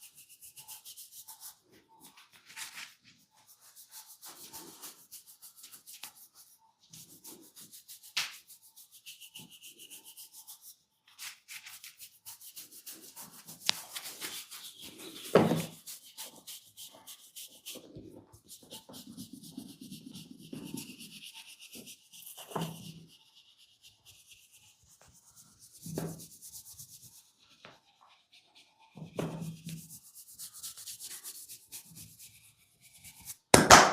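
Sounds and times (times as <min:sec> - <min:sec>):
fingernails scratching hair: 0:00.0 - 0:33.4.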